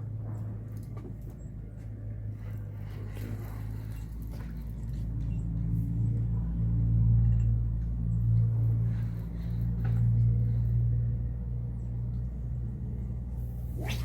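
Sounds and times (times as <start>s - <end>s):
engine hum with droning pitch: 0.0s - 14.0s.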